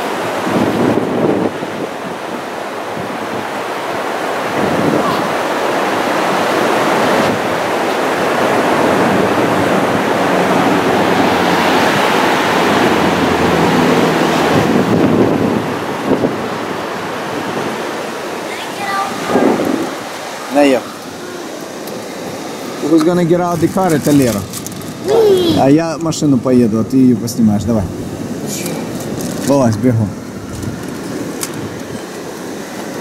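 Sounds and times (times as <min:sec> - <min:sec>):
ocean surf washing on beach: 0:00.0 - 0:33.0
wind on microphone: 0:00.0 - 0:33.0.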